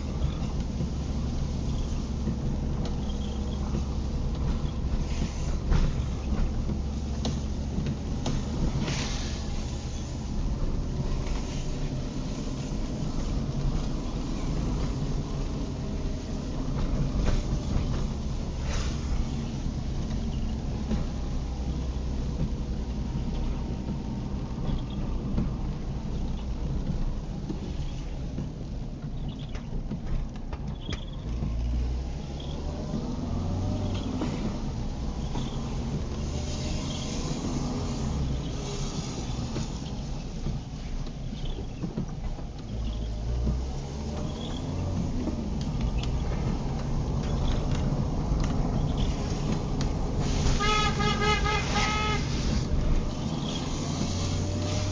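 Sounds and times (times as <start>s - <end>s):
rain hiss: 0.0s - 30.0s, 31.1s - 54.9s
car engine and tyres on wet road: 0.0s - 54.9s.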